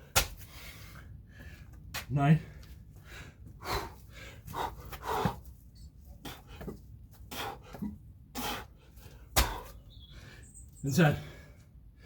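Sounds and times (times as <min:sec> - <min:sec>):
man panting heavily: 0:00.4 - 0:10.4, 0:11.2 - 0:12.0.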